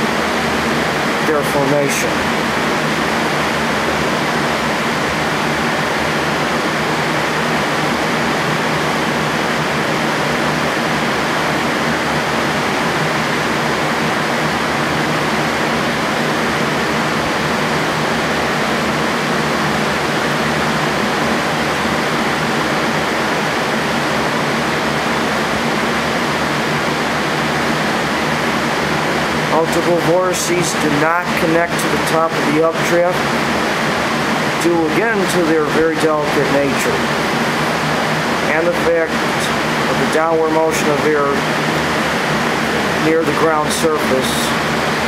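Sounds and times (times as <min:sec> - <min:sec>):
electric fans rushing air: 0:00.0 - 0:45.0.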